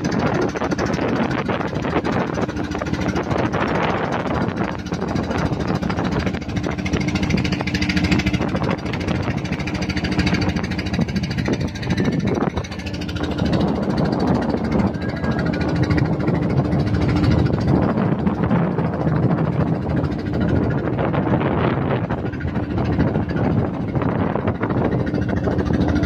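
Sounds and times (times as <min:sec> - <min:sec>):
boat engine humming: 0:00.0 - 0:26.0
water noise: 0:00.0 - 0:26.0
wind: 0:00.0 - 0:26.0.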